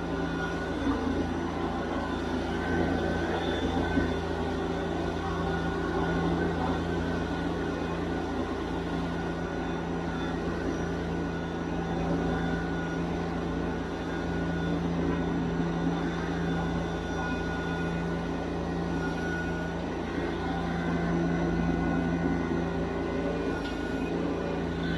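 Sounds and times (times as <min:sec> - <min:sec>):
high whine: 0:00.0 - 0:24.9.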